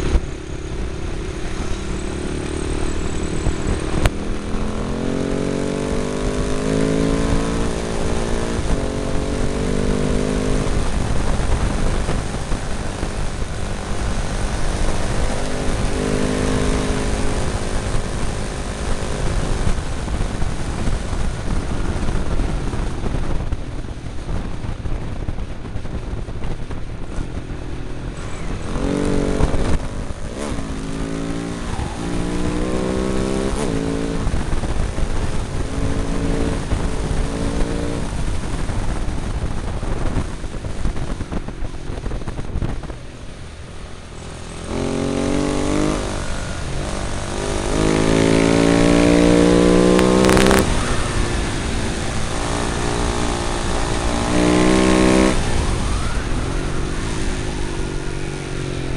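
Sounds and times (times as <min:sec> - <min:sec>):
motorcycle engine accelerating: 0:00.0 - 0:58.9
wind on microphone: 0:00.0 - 0:58.9.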